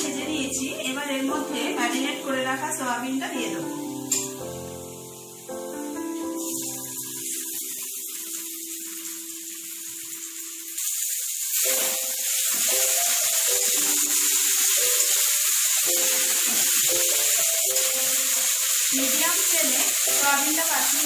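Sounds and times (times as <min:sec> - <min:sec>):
soft background music: 0:00.0 - 0:10.8, 0:11.5 - 0:21.0
food sizzling in hot oil: 0:00.0 - 0:21.0.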